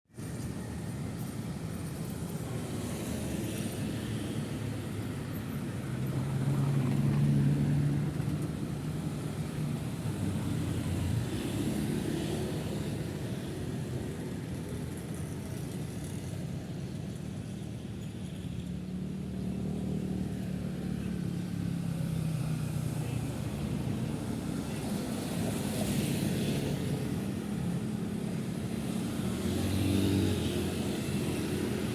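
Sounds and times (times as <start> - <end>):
cars and motorcycles passing: 0.2 - 31.9.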